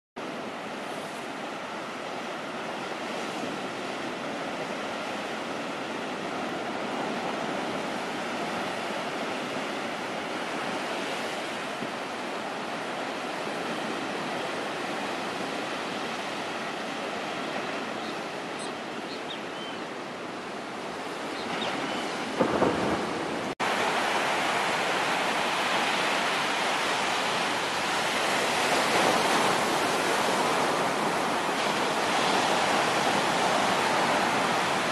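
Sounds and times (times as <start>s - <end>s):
ocean surf breaking on beach: 0.2s - 34.9s.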